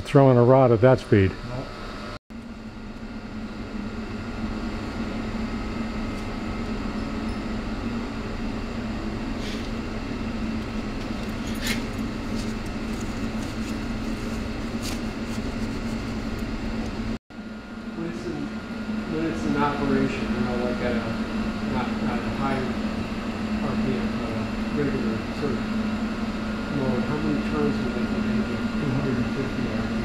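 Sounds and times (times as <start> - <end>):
engine motored mechanical hum: 0.0 - 30.0.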